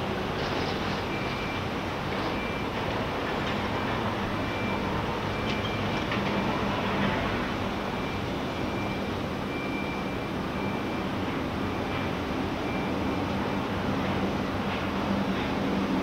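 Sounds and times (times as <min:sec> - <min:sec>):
mechanical din with low hum: 0:00.1 - 0:16.0.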